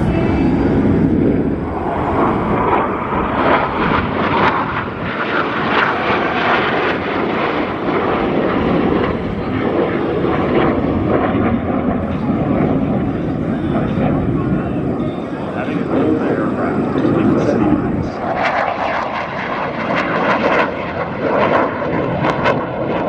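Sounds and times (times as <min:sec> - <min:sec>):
jet engines passing in flight: 0:00.0 - 0:23.0.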